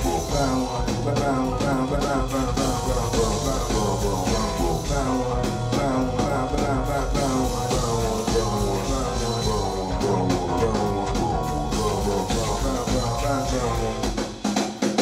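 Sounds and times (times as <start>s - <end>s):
live instrumental band music: 0.0s - 15.0s.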